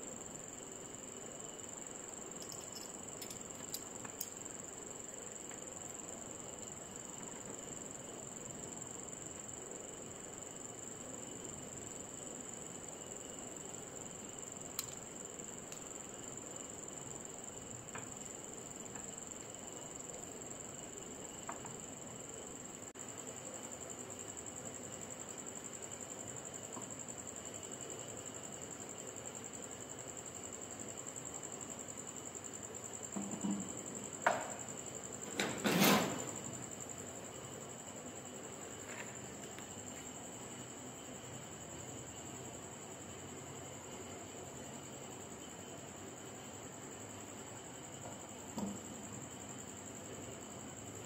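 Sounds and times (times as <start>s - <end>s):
crickets trilling: 0.0s - 51.0s.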